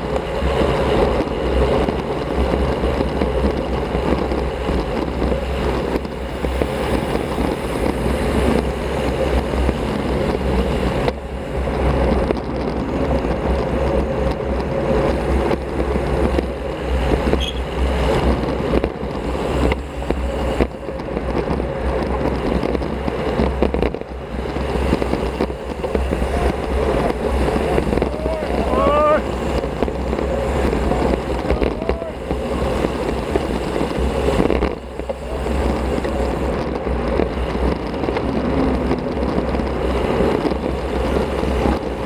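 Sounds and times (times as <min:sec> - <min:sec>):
bicycle road noise: 0:00.0 - 0:42.0
wind rush on microphone: 0:00.0 - 0:42.0.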